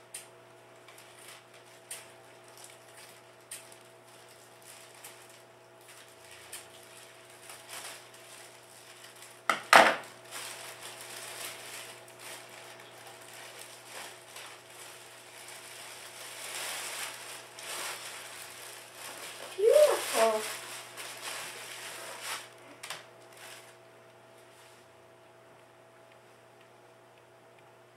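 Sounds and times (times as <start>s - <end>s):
plastic wrap crinkling: 0.2s - 24.9s.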